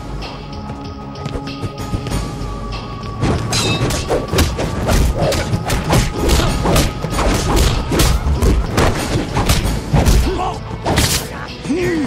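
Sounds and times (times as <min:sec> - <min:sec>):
film score music: 0:00.0 - 0:12.0.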